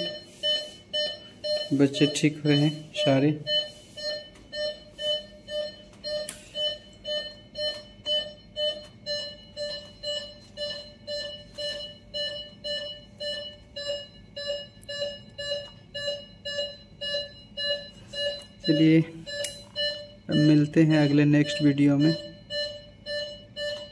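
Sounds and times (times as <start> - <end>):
medical alarm beeping: 0.0 - 23.9.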